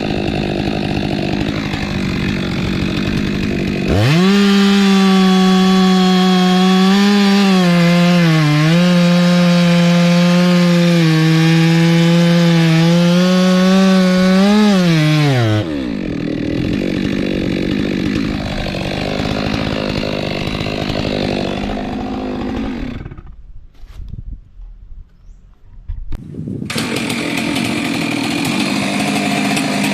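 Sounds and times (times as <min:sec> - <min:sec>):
chainsaw cutting wood: 0:00.0 - 0:23.4, 0:26.6 - 0:29.9.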